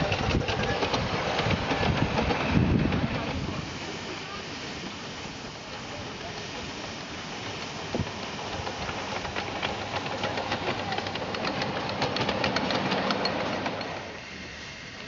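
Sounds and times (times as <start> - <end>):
steam locomotive exhaust: 0.0 - 15.0
wheels clicking on rails: 0.0 - 15.0.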